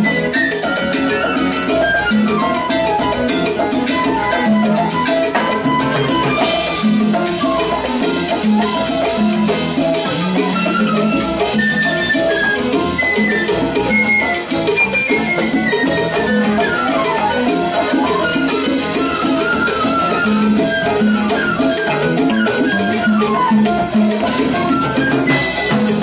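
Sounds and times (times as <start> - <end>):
electric bass: 0.0 - 26.0
flute solo: 0.0 - 26.0.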